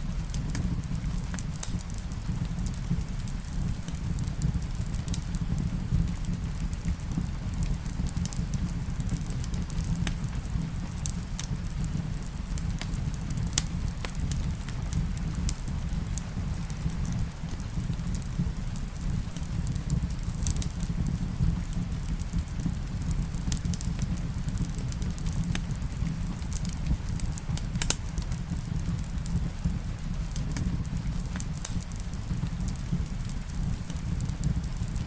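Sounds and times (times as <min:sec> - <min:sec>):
rain rumbling: 0:00.0 - 0:35.0
wood fire crackling: 0:00.0 - 0:35.0.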